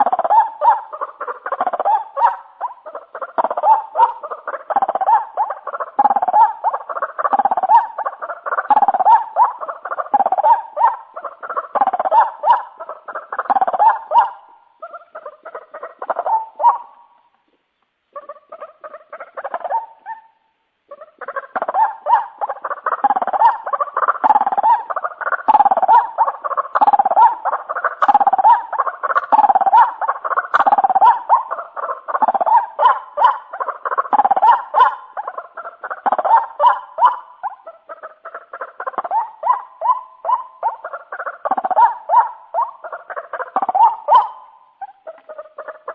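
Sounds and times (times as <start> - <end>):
waterhen calling repeatedly: 0.0 - 45.9.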